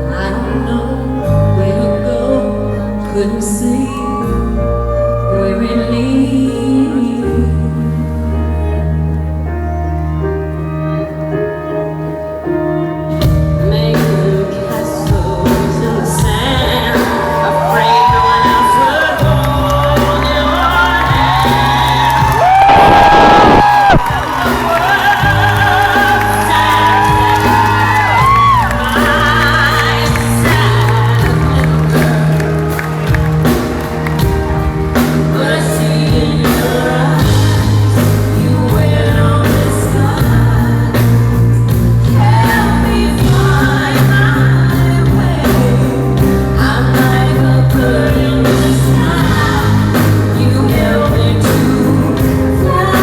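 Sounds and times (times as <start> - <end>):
woman singing: 0.0 - 9.0, 13.0 - 53.0
live pop-rock band: 0.0 - 53.0.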